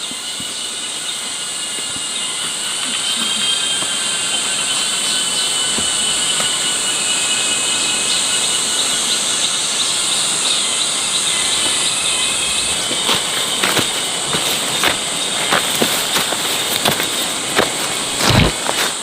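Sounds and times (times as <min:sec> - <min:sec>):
insect chorus buzzing: 0:00.0 - 0:19.0.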